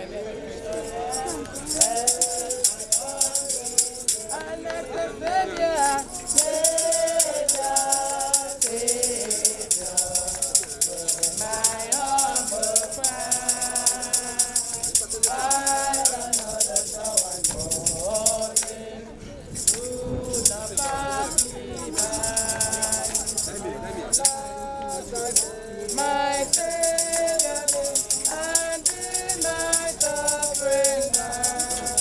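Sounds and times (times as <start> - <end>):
group singing a hymn: 0.0 - 32.0
shaker rattling a beat: 0.7 - 5.0, 5.8 - 18.8, 19.4 - 32.0.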